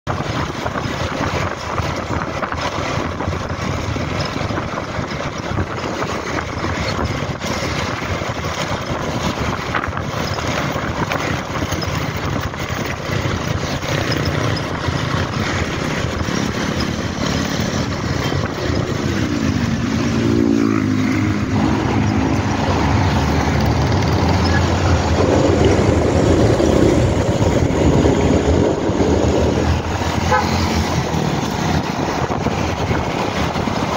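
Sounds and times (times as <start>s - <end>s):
wind rushing over microphone: 0.0s - 33.9s
scooter engine: 0.1s - 33.9s
truck engine: 0.1s - 33.9s.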